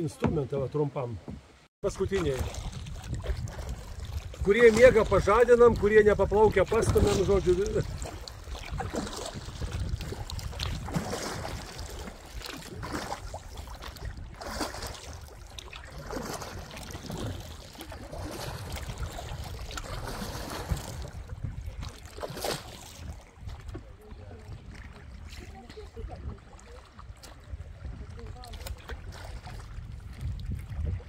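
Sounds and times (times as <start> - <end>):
river water splashing: 0.0 - 31.0
wind rumble on microphone: 1.8 - 31.0.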